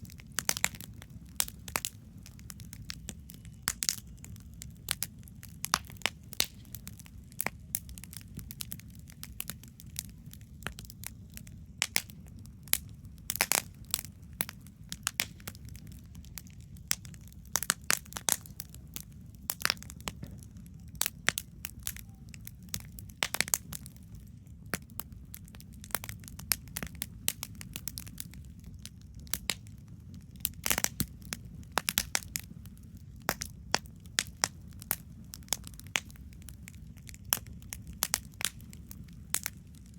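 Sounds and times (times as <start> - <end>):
campfire crackling: 0.0 - 39.9
low steady rumble: 0.0 - 39.9.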